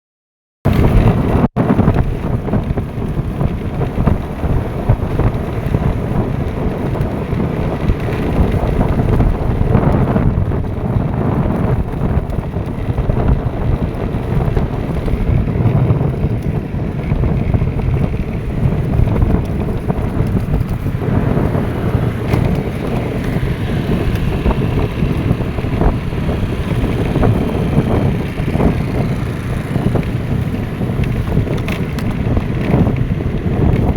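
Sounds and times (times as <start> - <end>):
wind buffeting microphone: 0.7 - 33.9.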